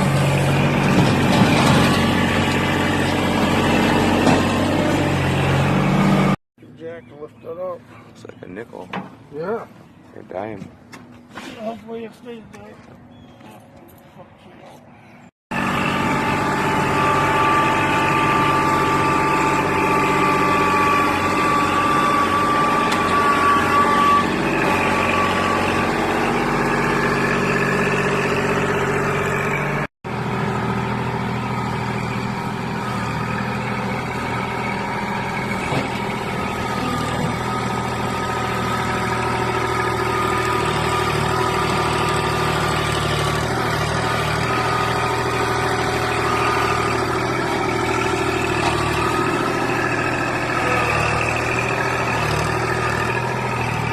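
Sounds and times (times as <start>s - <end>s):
engine running steadily: 7.4s - 53.9s.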